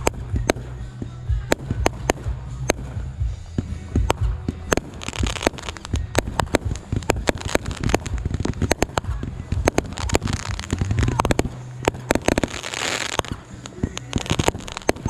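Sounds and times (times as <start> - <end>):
fireworks bangs and pops: 0.0 - 15.0
fireworks crackling: 0.0 - 15.0.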